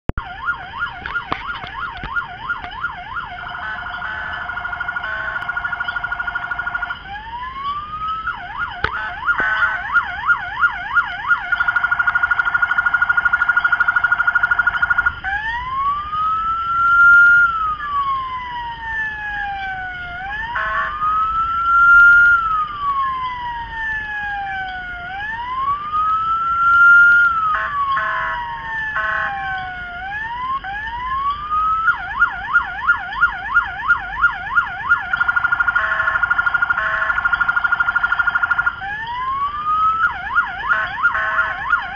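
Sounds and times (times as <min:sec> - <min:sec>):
electronic police siren: 0:00.2 - 0:41.9.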